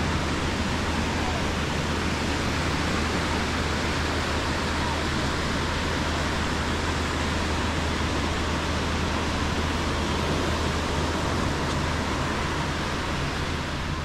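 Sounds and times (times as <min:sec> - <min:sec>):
surf washing up sand: 0:00.0 - 0:14.0
wind: 0:00.0 - 0:14.0.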